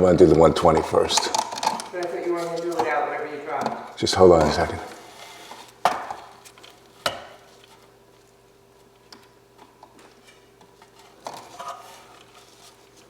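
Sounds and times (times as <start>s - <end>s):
rustling handling noise: 0.0s - 13.0s.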